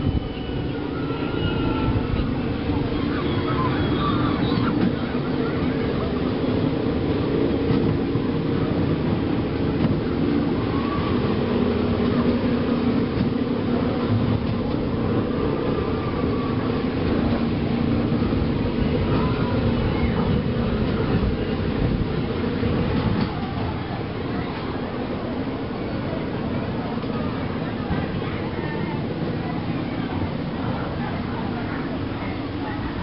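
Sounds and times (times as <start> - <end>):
ride vehicle rumbling on track: 0.0 - 33.0.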